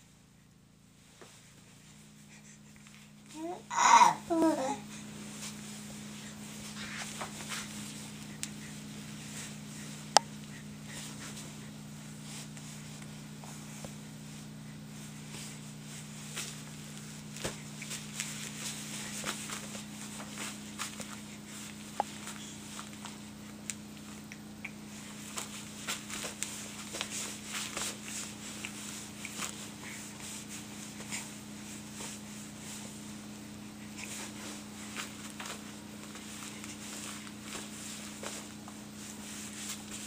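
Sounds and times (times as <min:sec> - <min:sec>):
steady low hum: 0:00.0 - 0:40.0
soft rustling: 0:01.0 - 0:40.0.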